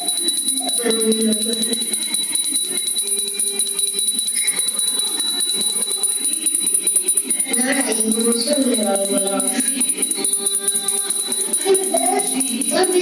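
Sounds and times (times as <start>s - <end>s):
music: 0.0s - 13.0s
small bells jingling: 0.0s - 13.0s.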